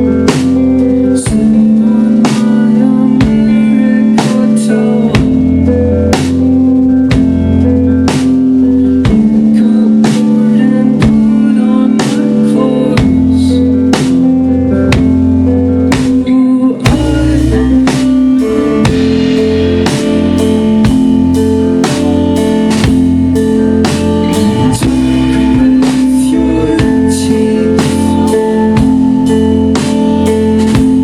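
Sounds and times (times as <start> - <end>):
rock band playing live: 0.0 - 31.0
slow drum beat: 0.0 - 31.0.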